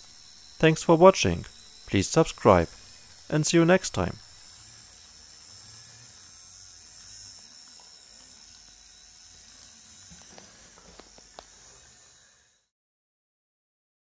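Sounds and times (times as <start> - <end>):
toy motors whirring: 0.0 - 12.7.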